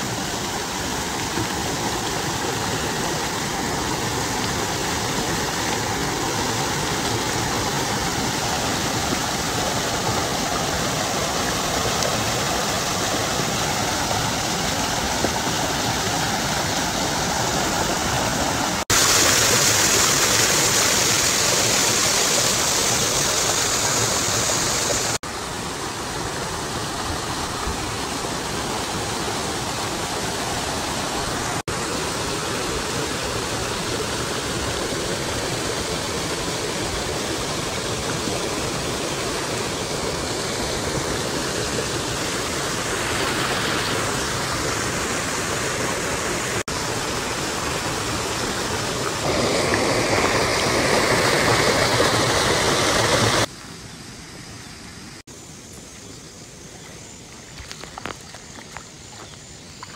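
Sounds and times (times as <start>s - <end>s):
mountain stream rushing over rocks: 0.0s - 59.9s.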